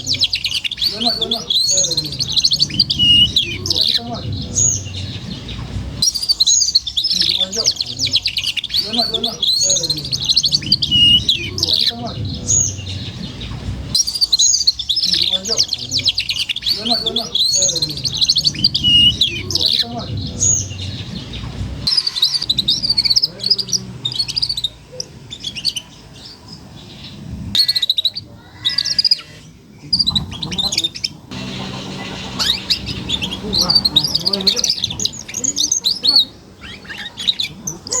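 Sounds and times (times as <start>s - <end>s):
canary chirping and trilling: 0.0s - 38.0s.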